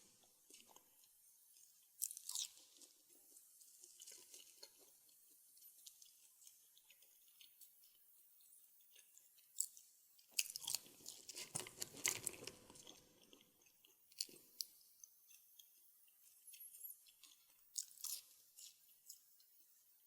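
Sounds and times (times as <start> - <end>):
crunchy bites and chewing: 0.0 - 8.0, 8.8 - 19.4.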